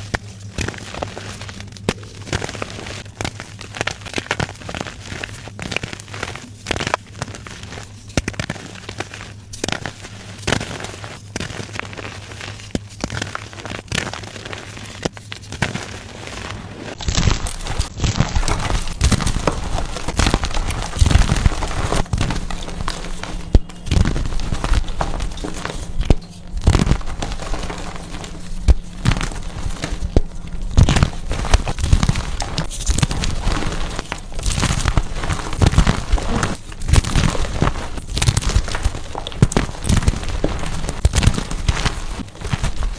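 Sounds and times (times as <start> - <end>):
chalk blocks crunching: 0.0 - 42.9.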